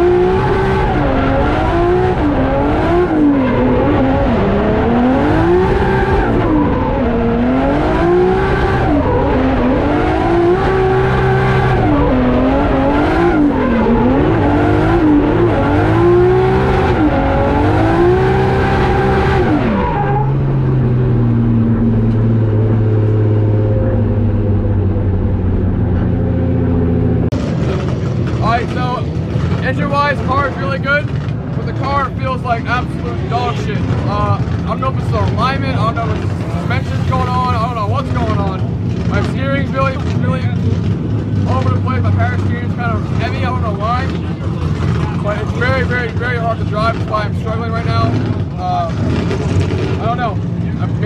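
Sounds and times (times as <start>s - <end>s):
car engine revving: 0.0s - 51.0s
tyres skidding: 0.0s - 51.0s.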